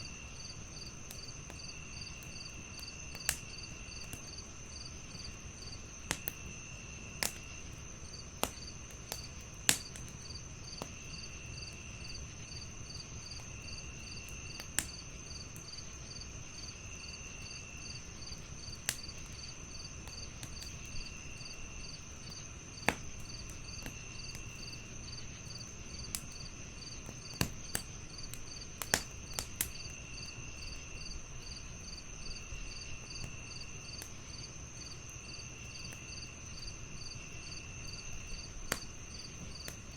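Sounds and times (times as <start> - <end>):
cricket trilling: 0.0 - 39.9
crickets chirping: 0.0 - 39.9
wood fire crackling and popping: 0.1 - 39.9.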